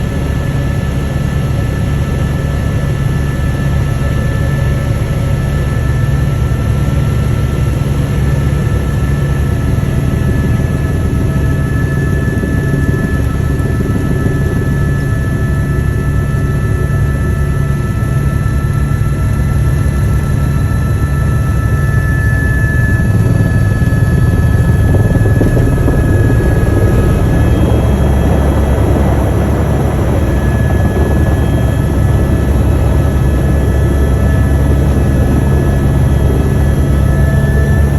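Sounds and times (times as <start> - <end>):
helicopter rotor drone: 0.0 - 37.9
high turbine whine: 0.0 - 37.9.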